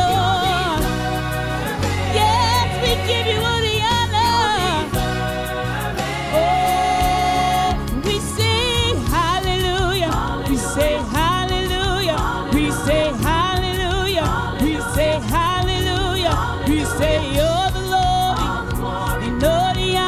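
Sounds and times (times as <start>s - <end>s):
instrumental backing with beat: 0.0s - 20.0s
woman singing gospel: 0.0s - 20.0s.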